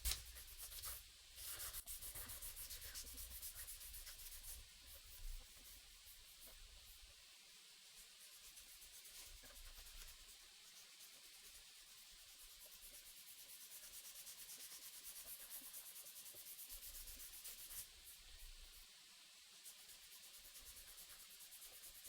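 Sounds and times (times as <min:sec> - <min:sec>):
hand sanding rubbing strokes: 0:00.0 - 0:06.9, 0:08.0 - 0:18.2, 0:19.6 - 0:22.0.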